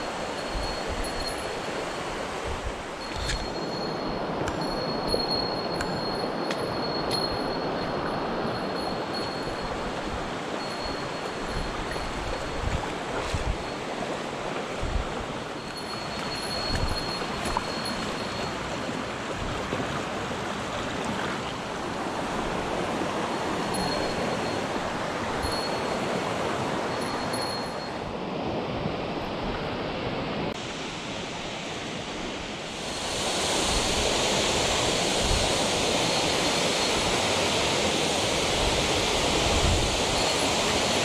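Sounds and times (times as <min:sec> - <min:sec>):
stream rushing over rocks: 0:00.0 - 0:28.2, 0:30.5 - 0:41.0.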